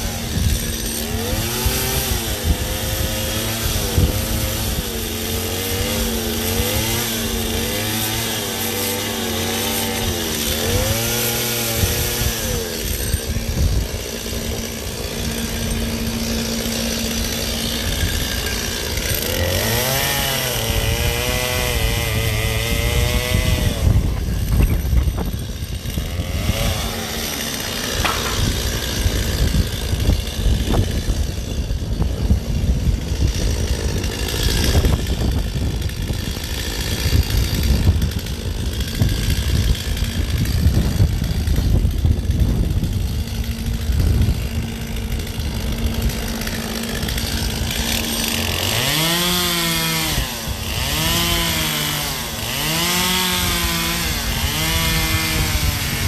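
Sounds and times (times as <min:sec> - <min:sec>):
chainsaw cutting into ice: 0:00.0 - 0:56.0
chainsaw engine running: 0:00.0 - 0:56.0.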